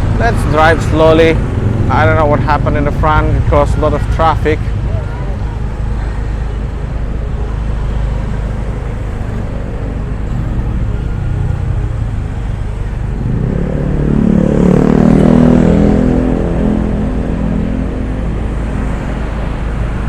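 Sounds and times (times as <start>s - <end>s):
car rumbling in traffic: 0.0s - 20.0s
vehicle accelerating nearby: 0.0s - 20.0s.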